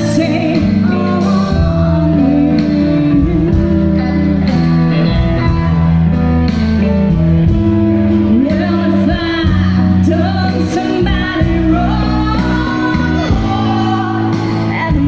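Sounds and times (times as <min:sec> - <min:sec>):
blues band playing: 0:00.0 - 0:15.0
electric guitar bending notes: 0:00.0 - 0:15.0.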